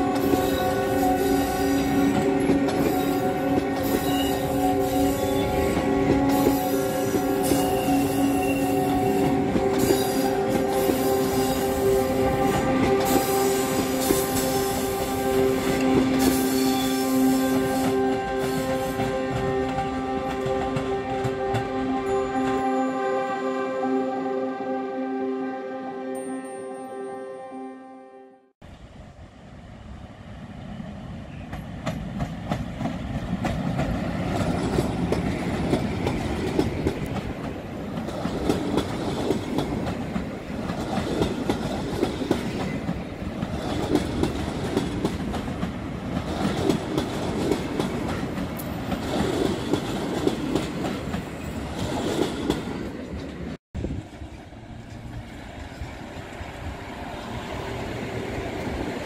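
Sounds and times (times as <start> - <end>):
passenger train passing: 0.0 - 59.0.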